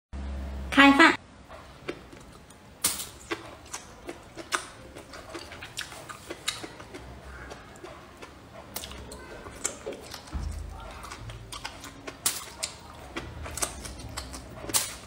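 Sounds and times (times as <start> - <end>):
chewing and mouth smacking: 1.5 - 15.0.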